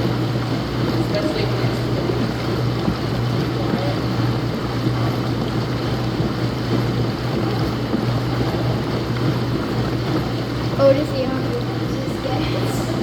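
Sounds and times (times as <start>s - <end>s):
washing machines running: 0.0s - 13.0s.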